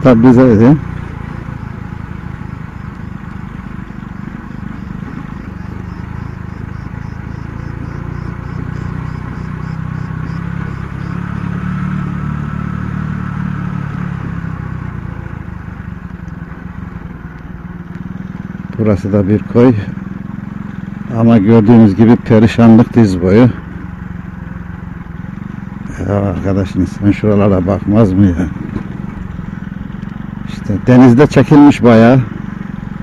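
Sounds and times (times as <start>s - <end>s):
small motorcycle engine running: 0.0s - 33.0s.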